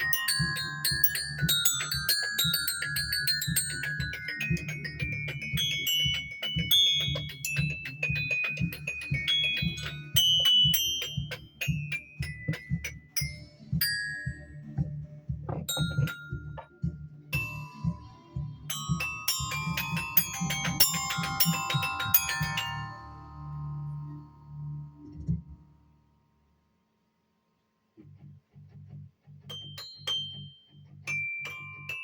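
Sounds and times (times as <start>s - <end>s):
mallet percussion notes: 0.0s - 25.7s, 29.5s - 32.0s.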